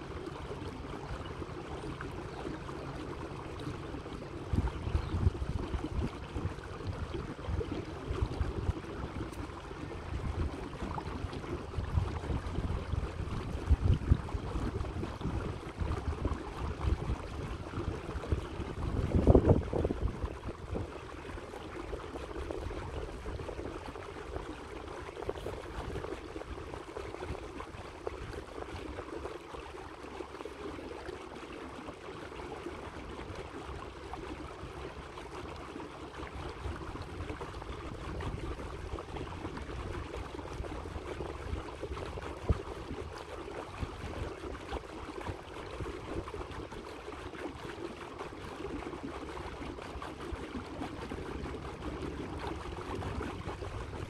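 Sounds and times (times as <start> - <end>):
water lapping against hull: 0.0 - 54.0.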